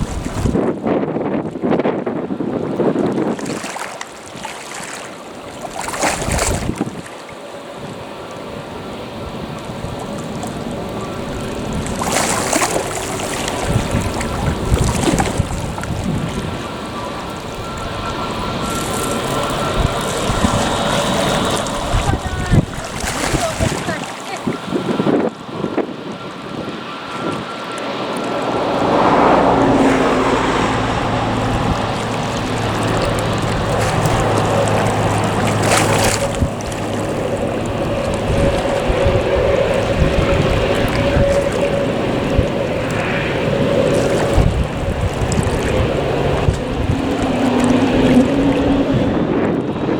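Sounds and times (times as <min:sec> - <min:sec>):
wind buffeting microphone: 0:00.0 - 0:49.9
distant jet airliner hum: 0:03.6 - 0:49.9.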